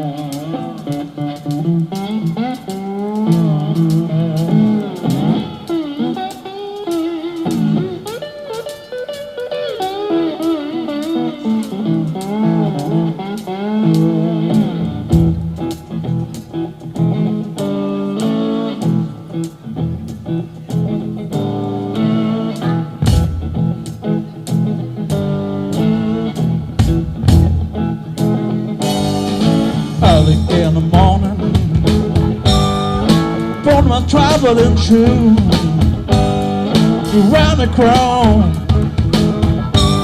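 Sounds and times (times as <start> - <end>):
blues band playing: 0.0 - 40.0
electric guitar lead: 0.0 - 40.0.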